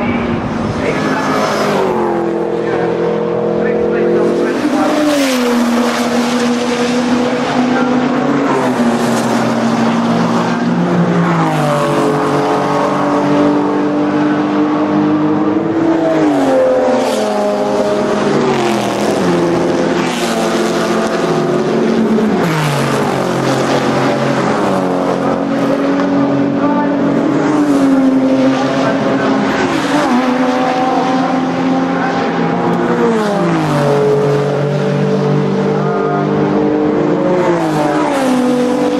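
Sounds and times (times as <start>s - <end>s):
racing cars passing at speed: 0.0s - 38.9s.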